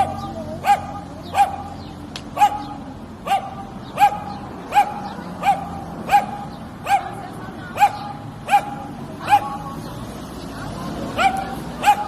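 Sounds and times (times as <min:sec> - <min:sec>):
large dog barking: 0:00.0 - 0:09.8, 0:11.1 - 0:12.0.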